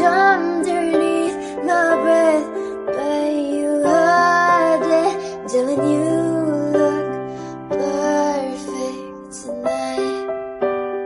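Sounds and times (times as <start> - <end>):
person singing: 0.0 - 10.3
piano chords: 0.0 - 11.0.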